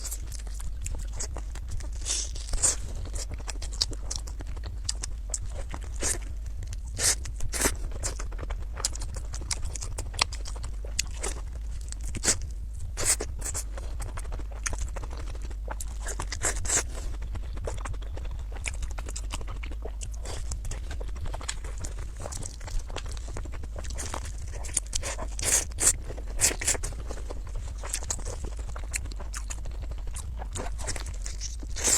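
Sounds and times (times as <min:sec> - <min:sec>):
chewing and crunching food: 0:00.0 - 0:31.9
steady low hum: 0:00.0 - 0:31.9.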